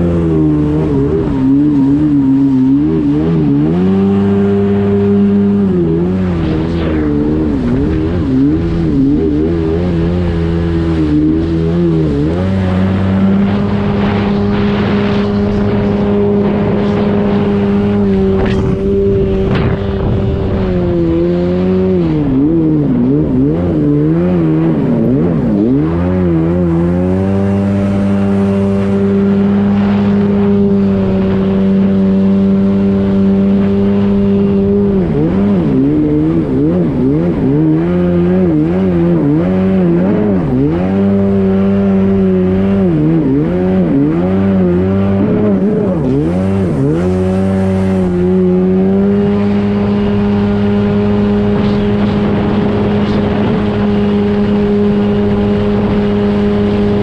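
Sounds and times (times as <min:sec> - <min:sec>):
watercraft engine running loud: 0:00.0 - 0:57.0.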